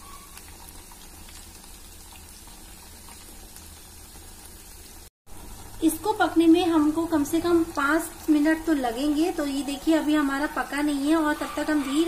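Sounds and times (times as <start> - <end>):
batter sizzling in hot fat: 0.0 - 12.0.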